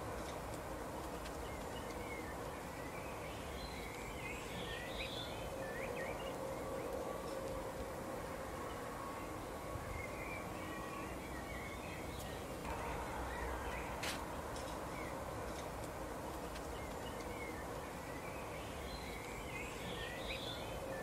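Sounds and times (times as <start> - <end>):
songbirds chirping: 0.0 - 21.0
steady outdoor hiss: 0.0 - 21.0.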